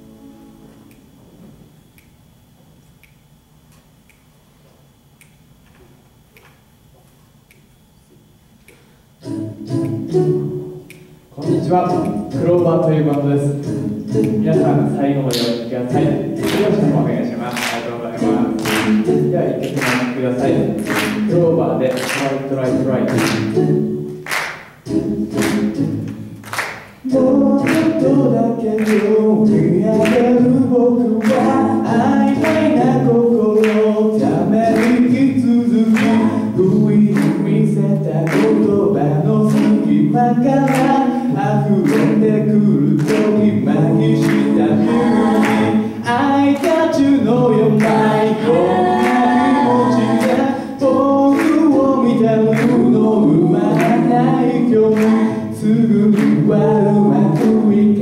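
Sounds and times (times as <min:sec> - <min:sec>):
a cappella group singing: 0:09.2 - 0:58.0.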